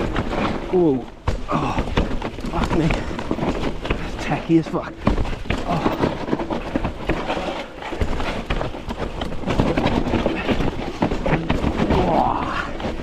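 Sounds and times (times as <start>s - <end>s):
bike knocks and rattles: 0.0s - 13.0s
bike tyres crunching over stones: 0.0s - 13.0s
continuous rushing noise: 0.0s - 13.0s.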